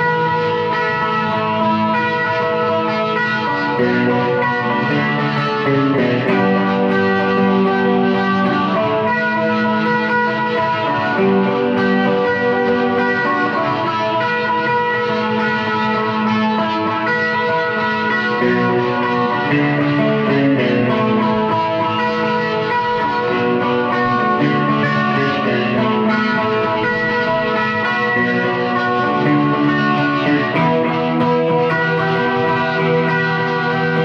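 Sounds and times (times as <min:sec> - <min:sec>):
electric guitar strumming chords: 0:00.0 - 0:34.0.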